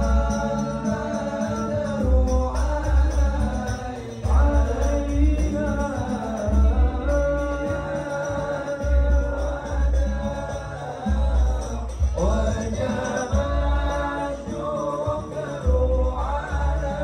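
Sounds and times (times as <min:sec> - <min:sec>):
deep drum beat: 0:00.0 - 0:17.0
person singing chant-like song: 0:00.0 - 0:17.0.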